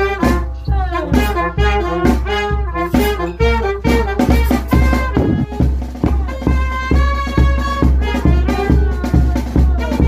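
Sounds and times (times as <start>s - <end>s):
bass drum beat: 0.0s - 10.0s
brass band chords: 0.0s - 10.0s.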